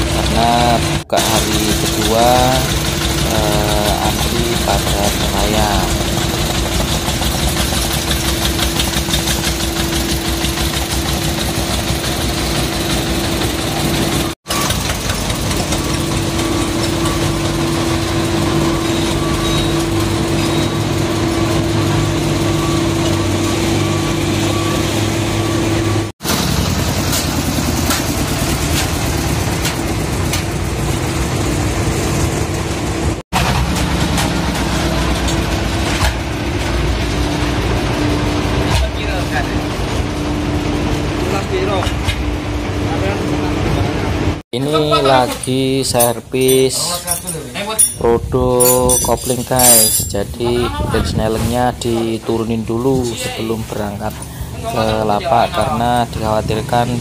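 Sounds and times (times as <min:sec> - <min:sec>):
diesel engines chugging: 0:00.0 - 0:57.0.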